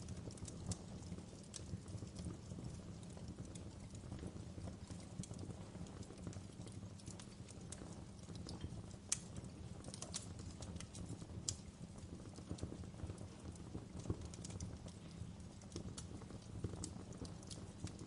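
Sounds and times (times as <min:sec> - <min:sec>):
sharp pops of fire: 0:00.0 - 0:18.0
wood fire crackling: 0:00.0 - 0:18.0.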